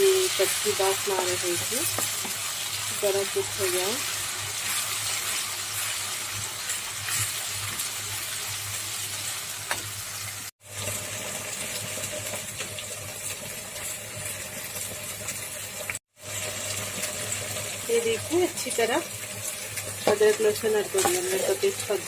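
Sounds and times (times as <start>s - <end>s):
paste sizzling in hot oil: 0.0s - 22.0s.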